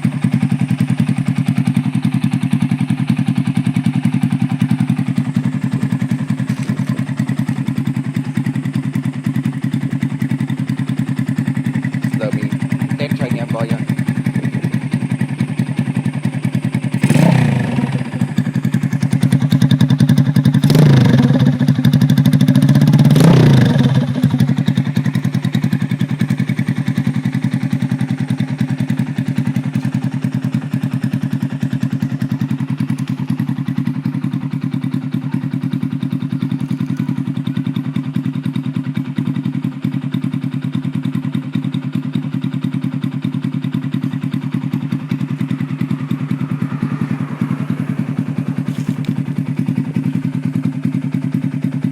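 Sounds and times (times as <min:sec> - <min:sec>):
motorcycle engine revving and idling: 0:00.0 - 0:51.9.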